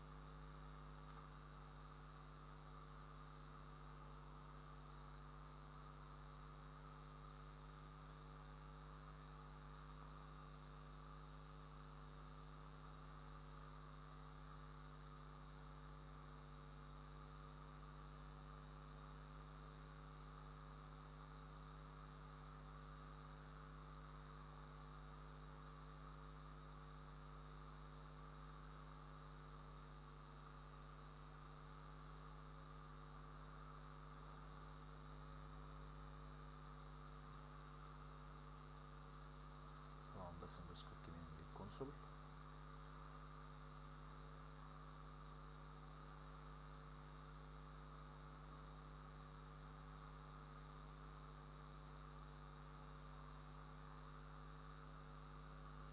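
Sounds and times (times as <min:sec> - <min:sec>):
faint electrical hum: 0:00.0 - 0:55.9.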